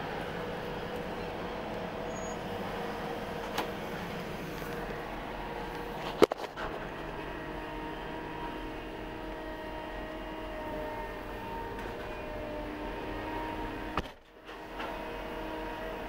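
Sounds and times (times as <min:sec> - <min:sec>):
faint whining tones: 0:00.0 - 0:16.0
heavy machinery humming: 0:00.0 - 0:16.0.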